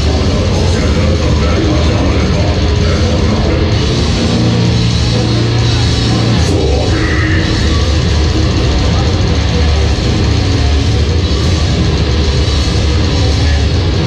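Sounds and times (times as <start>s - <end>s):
death metal band playing: 0.0s - 14.0s.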